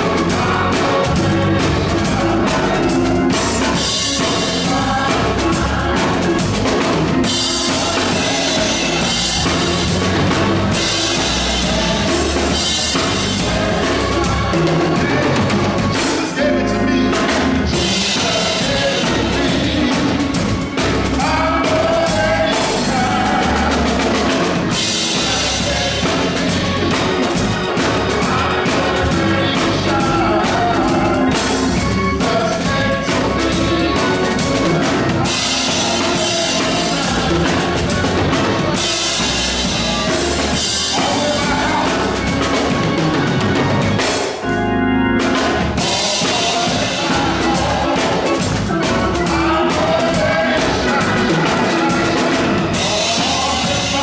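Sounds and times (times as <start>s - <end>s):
bass: 0.0s - 54.0s
drum kit beat: 0.0s - 54.0s.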